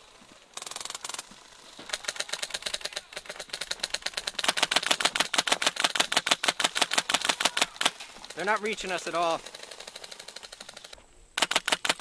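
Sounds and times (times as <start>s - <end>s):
airsoft guns firing full auto: 0.5s - 12.0s.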